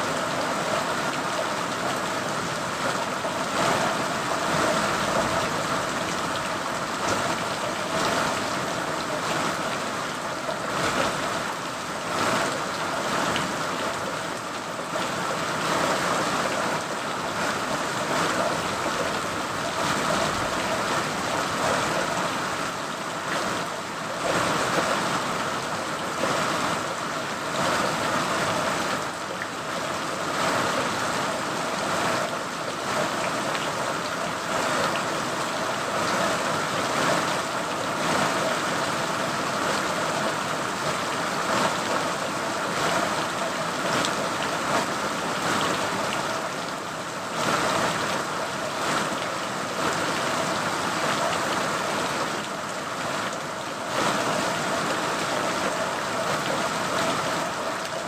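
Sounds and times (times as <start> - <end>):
individual raindrops: 0.0 - 58.0
steady rain falling: 0.0 - 58.0.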